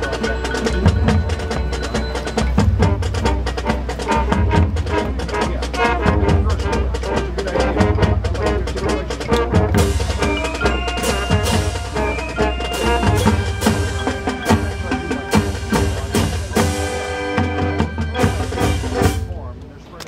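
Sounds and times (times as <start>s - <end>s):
mallet percussion: 0.0s - 19.6s
brass chords: 0.0s - 19.7s
marching drums: 0.0s - 20.0s.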